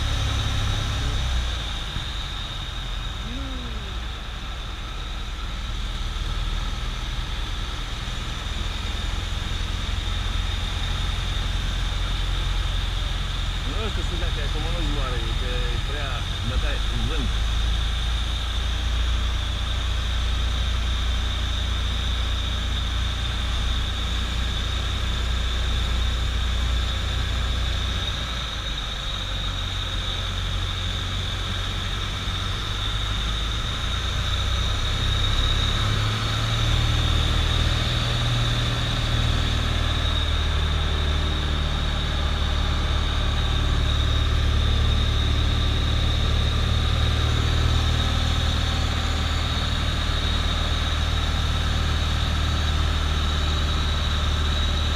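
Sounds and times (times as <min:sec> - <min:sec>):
airplane engine droning: 0:00.0 - 0:54.9.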